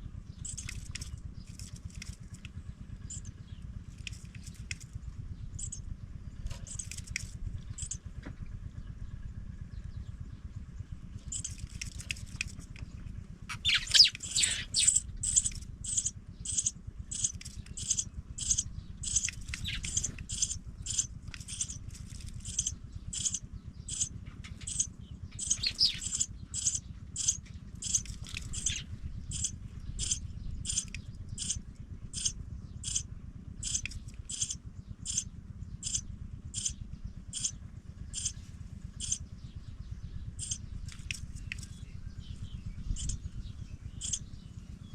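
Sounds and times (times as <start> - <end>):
nestling birds cheeping: 0.0 - 8.2, 8.8 - 44.9
steady low rumble: 0.0 - 44.9.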